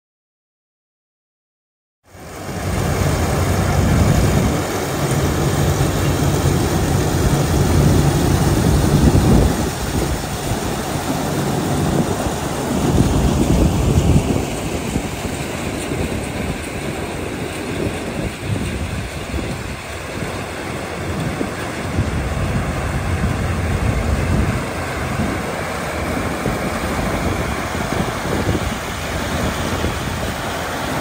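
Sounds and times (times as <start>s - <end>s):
corn picker rushing noise: 2.1s - 31.0s
tractor engine hum: 2.1s - 31.0s.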